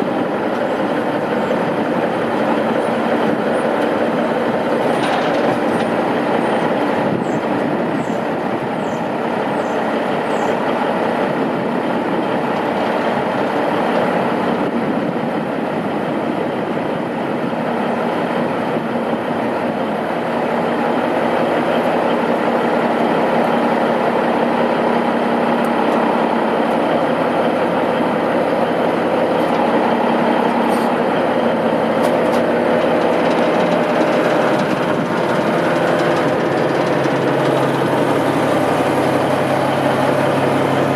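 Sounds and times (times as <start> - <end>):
diesel truck engine drone: 0.0 - 40.9.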